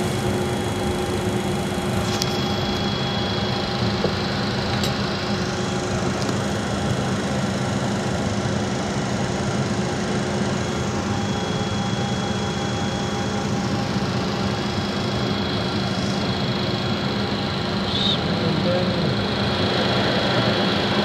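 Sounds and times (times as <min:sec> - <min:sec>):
jet engines humming: 0:00.0 - 0:21.0
thin high whine: 0:00.0 - 0:21.0.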